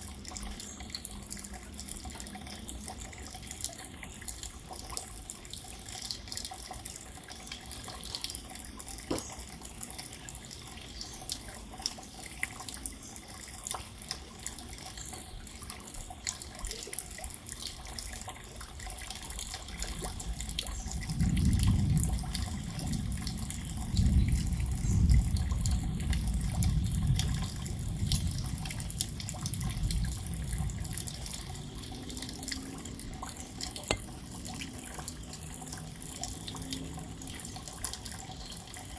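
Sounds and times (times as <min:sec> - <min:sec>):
drips and patters: 0:00.0 - 0:38.9
steady rain: 0:00.0 - 0:38.9.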